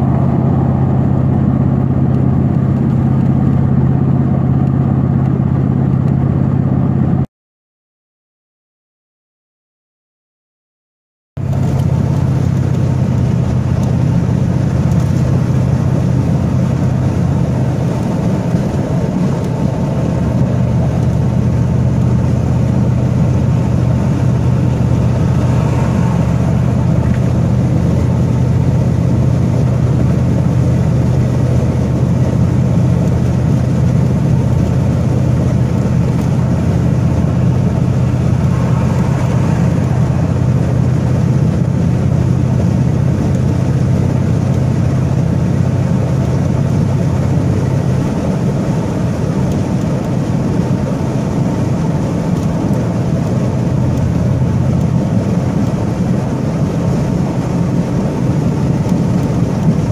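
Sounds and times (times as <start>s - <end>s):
car engine and road drone: 0.0s - 7.3s, 11.4s - 59.9s.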